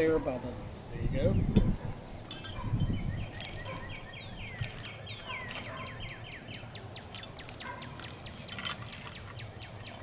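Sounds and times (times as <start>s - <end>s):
songbird chirping and whistling: 1.3s - 10.0s.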